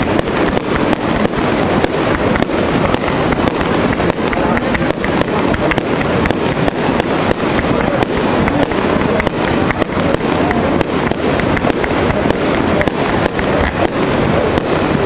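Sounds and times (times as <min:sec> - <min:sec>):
fireworks hissing rush: 0:00.0 - 0:15.0
fireworks popping and crackling: 0:00.0 - 0:15.0.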